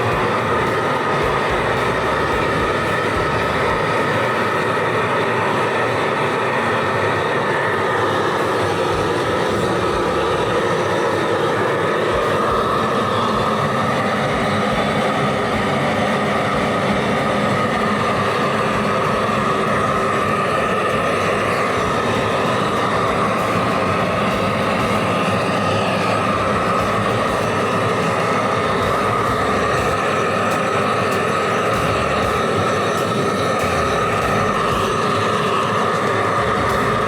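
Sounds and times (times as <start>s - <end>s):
gas torch flame rushing: 0.0s - 37.0s.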